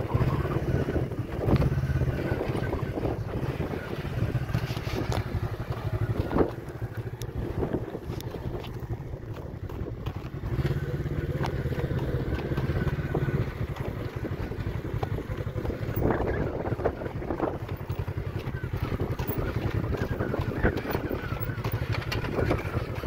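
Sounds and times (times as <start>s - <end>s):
off-road vehicle engine drone: 0.0s - 23.0s.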